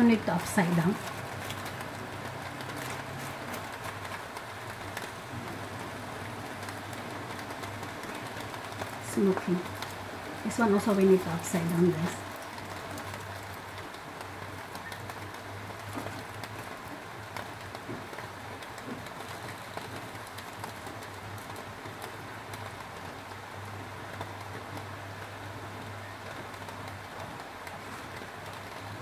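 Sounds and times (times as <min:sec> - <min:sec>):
food sizzling with crackles: 0:00.0 - 0:29.0.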